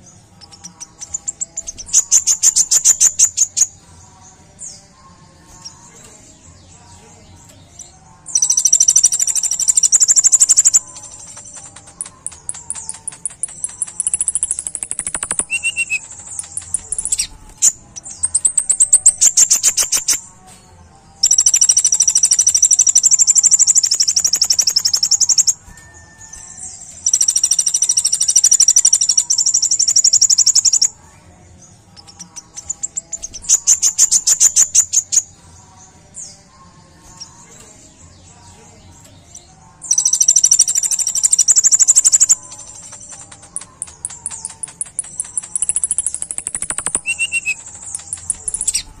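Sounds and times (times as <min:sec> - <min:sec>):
sunbird singing rapid trills: 0:00.0 - 0:20.3, 0:21.2 - 0:49.0.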